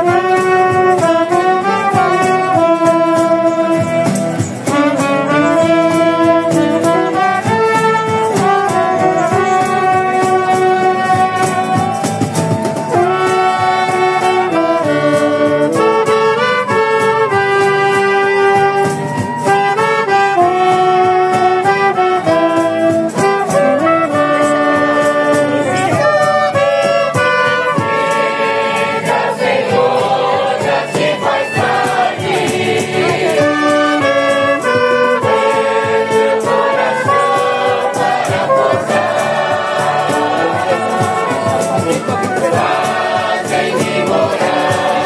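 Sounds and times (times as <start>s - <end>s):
people singing along: 0.0s - 20.5s, 22.1s - 45.0s
street band playing hymn: 0.0s - 45.0s.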